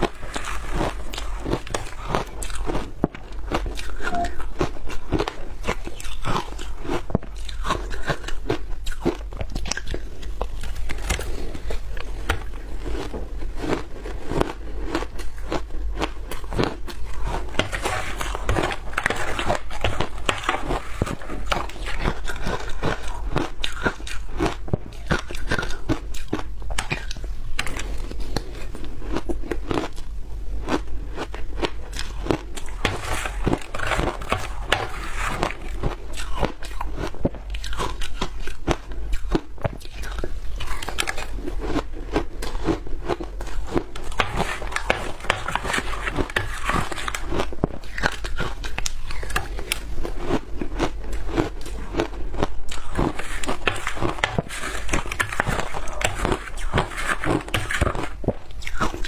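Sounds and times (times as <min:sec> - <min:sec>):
chewing: 0:00.0 - 0:59.0
crunching frozen food: 0:00.0 - 0:59.0.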